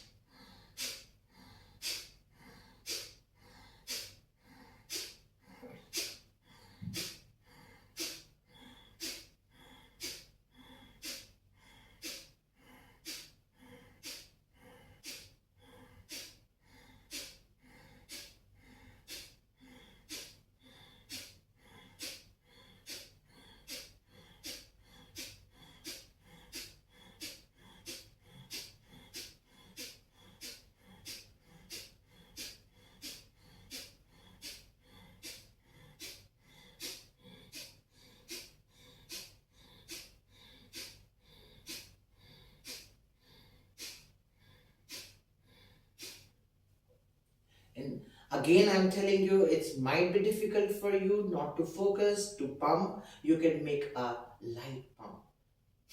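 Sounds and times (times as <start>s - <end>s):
forceful nasal exhalations: 0.0s - 46.4s.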